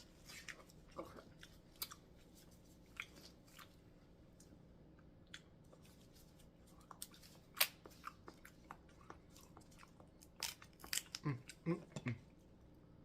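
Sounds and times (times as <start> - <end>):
chewing: 0.0 - 4.6, 5.3 - 12.4.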